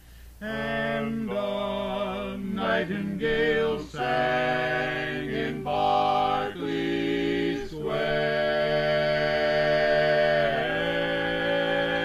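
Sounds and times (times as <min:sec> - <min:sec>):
male quartet singing a cappella: 0:00.4 - 0:12.0.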